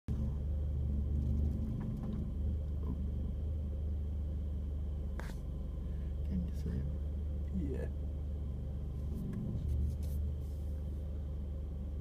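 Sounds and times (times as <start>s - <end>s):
car engine droning: 0.1s - 12.0s.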